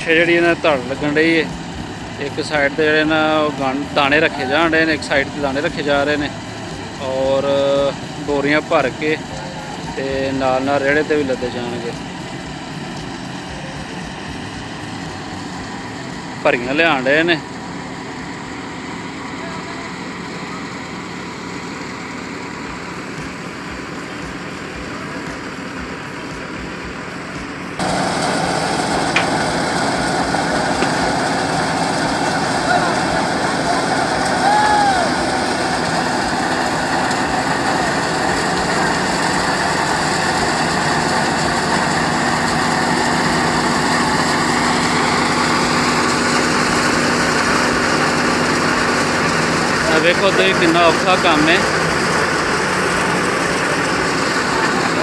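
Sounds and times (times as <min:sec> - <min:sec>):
thresher running: 0:00.0 - 0:55.0.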